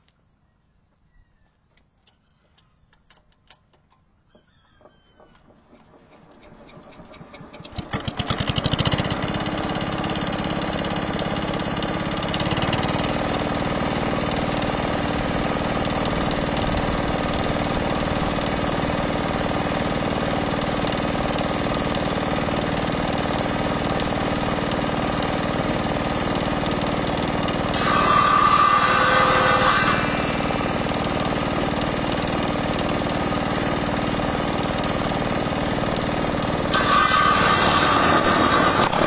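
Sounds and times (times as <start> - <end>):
diesel engine starting and running: 5.0 - 27.8, 30.0 - 39.0
circular saw blade spinning: 5.5 - 39.0.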